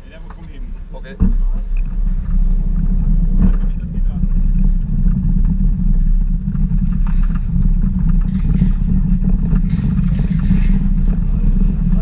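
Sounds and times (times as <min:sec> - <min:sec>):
faint clatter: 0:00.0 - 0:12.0
vehicle rumble: 0:00.0 - 0:12.0.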